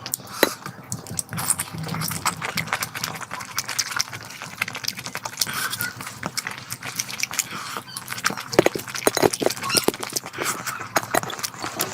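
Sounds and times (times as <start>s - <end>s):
chewing and mouth noises: 0.0s - 11.9s.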